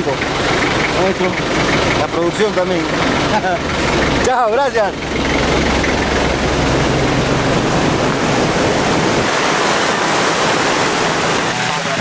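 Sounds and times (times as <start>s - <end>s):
loud steady rushing noise: 0.0s - 12.0s
pickup engine rumble: 0.0s - 12.0s.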